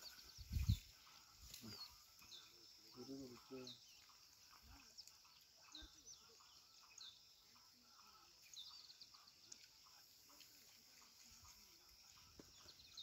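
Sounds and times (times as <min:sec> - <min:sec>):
faint high chirps: 0:00.0 - 0:13.0
faint outdoor ambience: 0:00.0 - 0:13.0.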